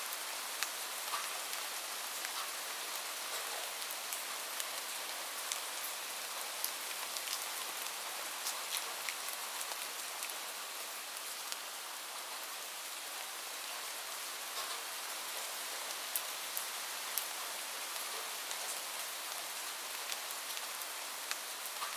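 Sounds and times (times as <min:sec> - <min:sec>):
light rain falling: 0:00.0 - 0:21.9.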